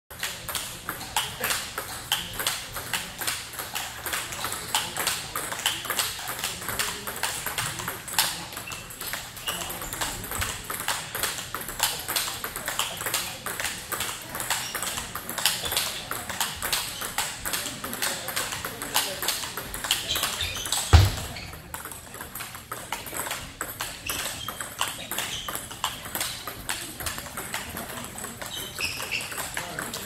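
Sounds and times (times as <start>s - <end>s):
table tennis ball rally: 0.2s - 30.0s.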